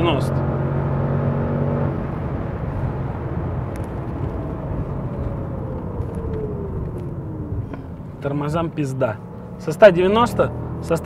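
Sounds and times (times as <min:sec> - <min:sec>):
car engine: 0:00.0 - 0:11.0
road and wind noise: 0:00.0 - 0:11.0.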